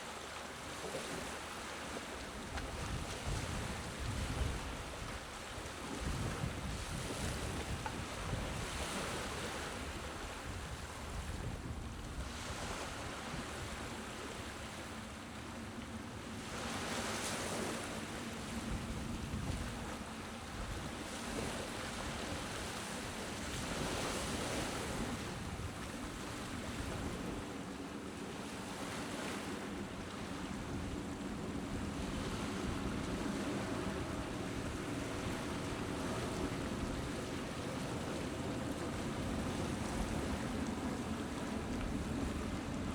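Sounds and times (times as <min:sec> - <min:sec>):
small waves lapping on shore: 0:00.0 - 0:42.9.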